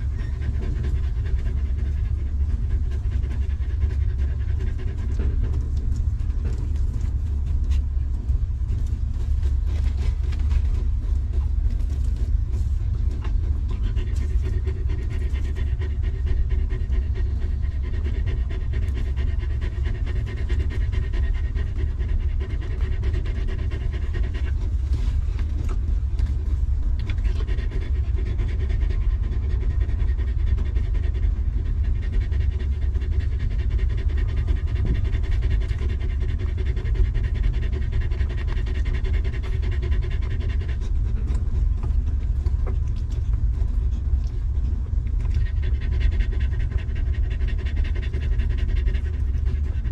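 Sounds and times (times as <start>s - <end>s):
dog panting rapidly: 0.0s - 49.9s
low rumble: 0.0s - 49.9s.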